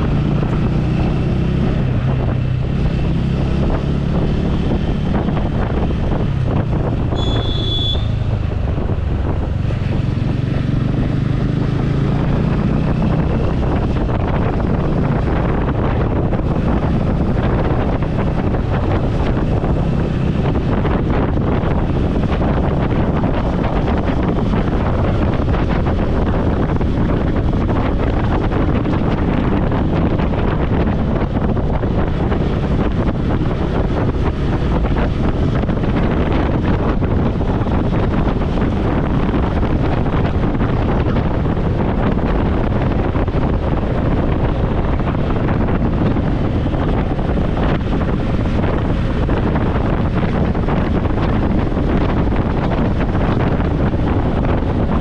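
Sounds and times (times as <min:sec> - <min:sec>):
motorcycle running: 0:00.0 - 0:55.0
traffic: 0:00.0 - 0:55.0
wind rushing over microphone: 0:00.0 - 0:55.0.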